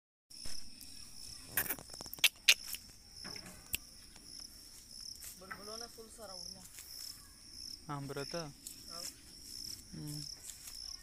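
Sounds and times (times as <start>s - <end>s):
insects chirring: 0.3s - 11.0s.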